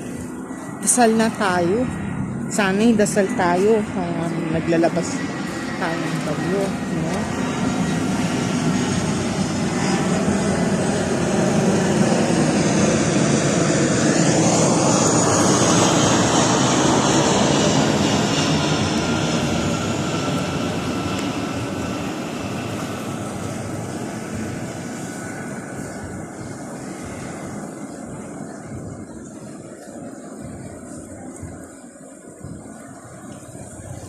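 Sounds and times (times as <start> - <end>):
aircraft engine roar: 0.0 - 34.0
aircraft whine: 0.0 - 34.0.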